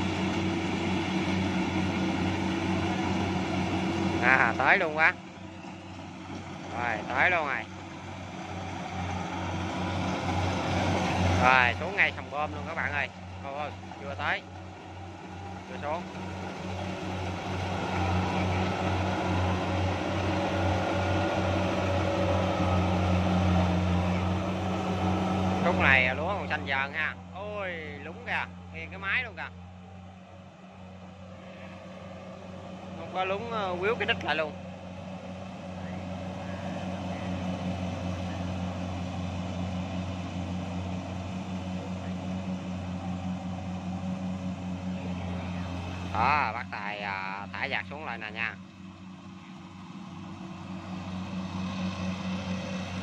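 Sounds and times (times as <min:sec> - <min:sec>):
combine harvester diesel engine: 0:00.0 - 0:53.0.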